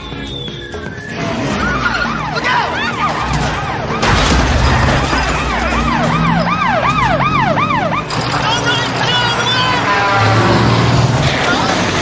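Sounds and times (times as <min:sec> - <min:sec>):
low engine rumble: 0:00.0 - 0:12.0
police sirens wailing: 0:00.0 - 0:12.0.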